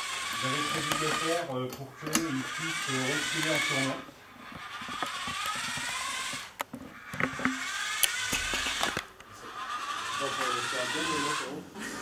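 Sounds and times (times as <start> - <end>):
toy car motors whirring: 0.0 - 12.0.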